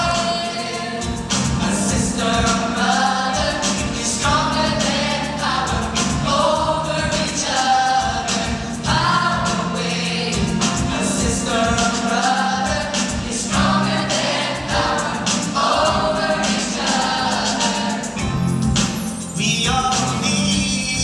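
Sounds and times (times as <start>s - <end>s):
lead singers on microphones: 0.0s - 18.2s
choir singing upbeat song: 0.0s - 21.0s
live band drums and guitar: 0.0s - 21.0s.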